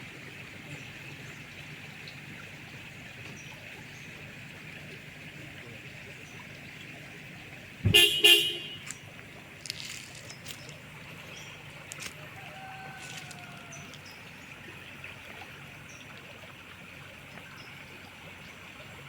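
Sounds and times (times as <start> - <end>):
river water running: 0.0 - 19.0.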